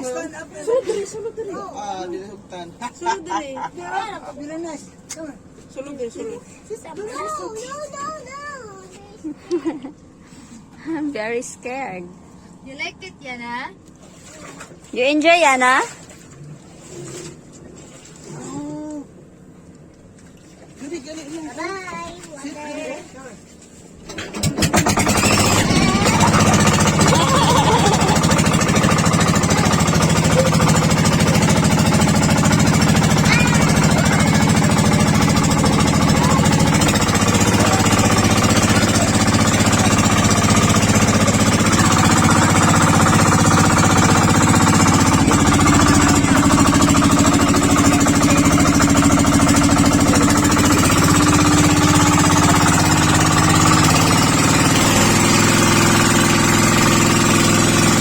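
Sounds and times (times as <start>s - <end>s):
boat engine chugging: 0.0s - 19.4s, 24.1s - 58.0s.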